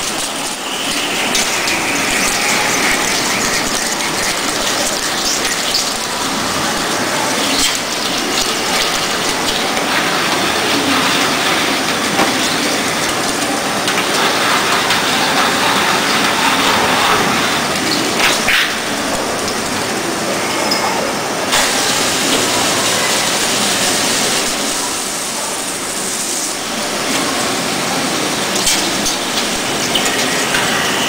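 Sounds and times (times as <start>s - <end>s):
coolant spray hissing: 0.0s - 20.3s, 21.1s - 31.0s
machine running noise: 0.0s - 31.0s.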